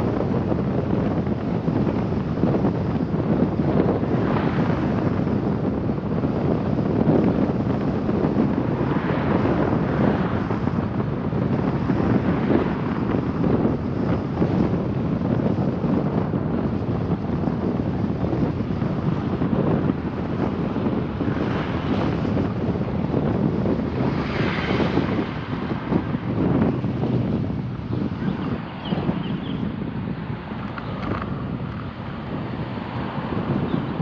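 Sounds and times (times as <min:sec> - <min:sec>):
car road noise: 0:00.0 - 0:34.0
wind buffeting microphone: 0:00.0 - 0:34.0.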